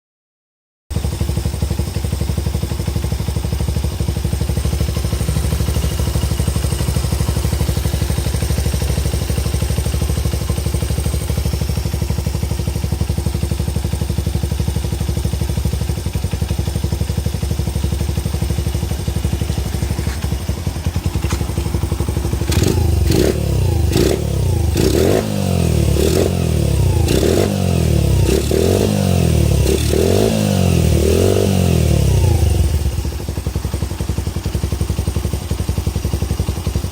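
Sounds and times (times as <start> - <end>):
motorcycle engine idling and revving: 0.9 - 36.9.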